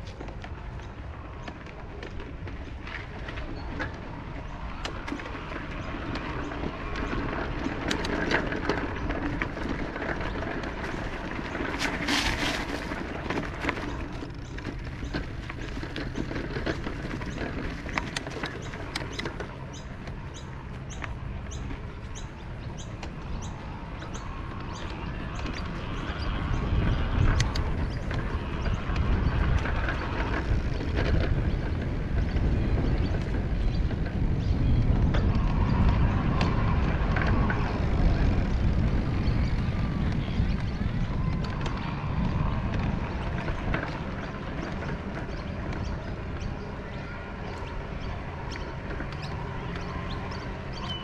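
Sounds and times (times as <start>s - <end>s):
bike clicks: 0.0s - 51.0s
tyre rumble: 0.0s - 51.0s
wind on microphone: 0.0s - 51.0s.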